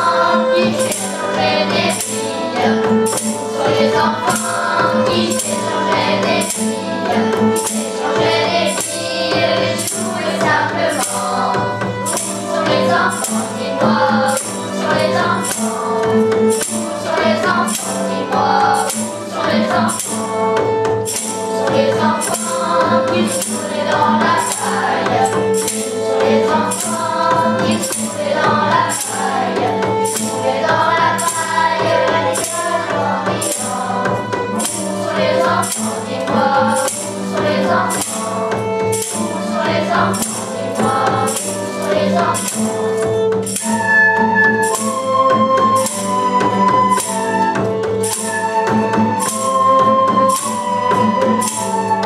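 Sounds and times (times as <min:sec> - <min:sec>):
children's choir singing: 0:00.0 - 0:52.0
keyboard: 0:00.0 - 0:52.0
tambourine strikes: 0:00.0 - 0:52.0
violin: 0:00.0 - 0:52.0.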